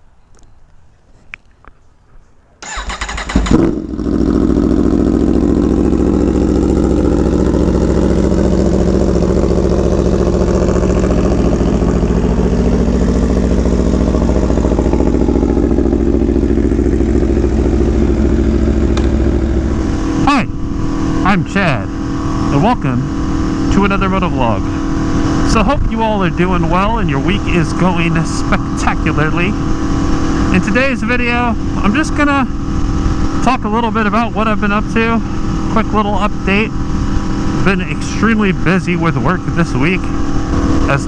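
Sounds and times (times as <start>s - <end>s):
motorcycle engine starting and idling: 2.6s - 41.0s.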